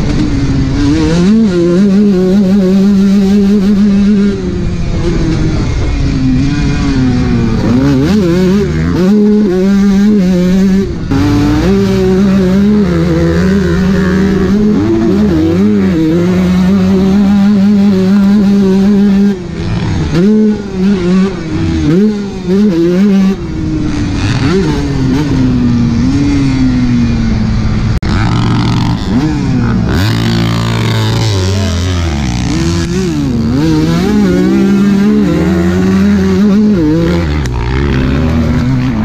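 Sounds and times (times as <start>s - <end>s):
motocross bike engine revving: 0.0s - 39.0s.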